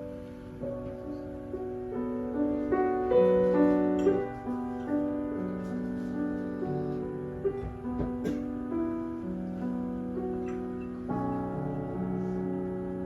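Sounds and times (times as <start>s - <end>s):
slow solo piano: 0.0s - 13.0s.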